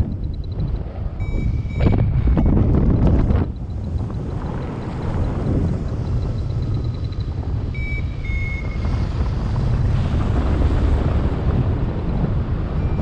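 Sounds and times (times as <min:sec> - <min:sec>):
wind rushing on microphone: 0:00.0 - 0:13.0.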